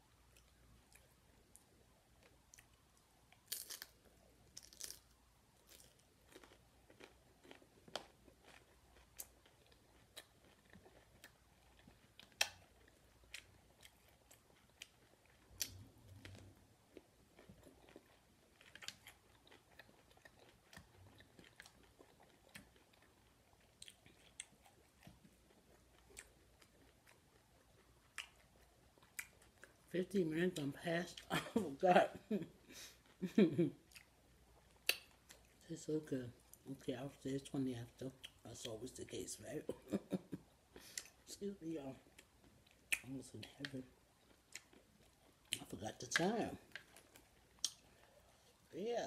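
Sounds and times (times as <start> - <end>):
person chewing food: 0.2 - 29.9, 32.3 - 35.6, 39.7 - 41.2, 42.0 - 48.7.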